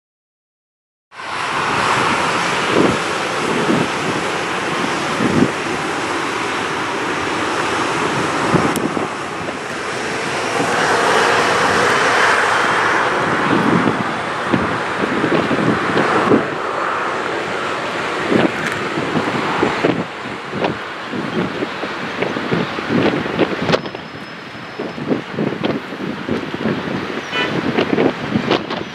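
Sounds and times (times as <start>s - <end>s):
jet engines running: 1.1s - 28.9s
wind buffeting microphone: 1.2s - 28.9s.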